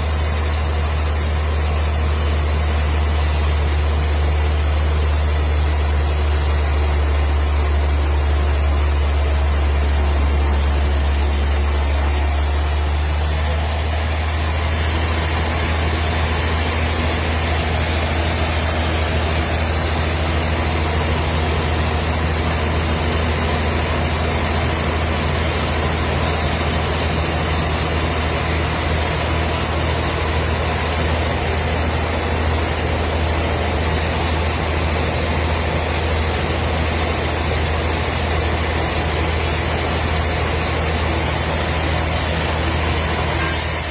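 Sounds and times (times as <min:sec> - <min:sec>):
wood processing machine running: 0:00.0 - 0:43.9.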